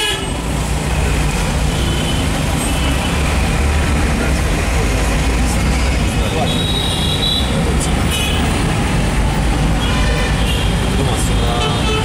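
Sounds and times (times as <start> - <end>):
low rumble of traffic engines: 0.0 - 12.0
road noise: 0.0 - 12.0.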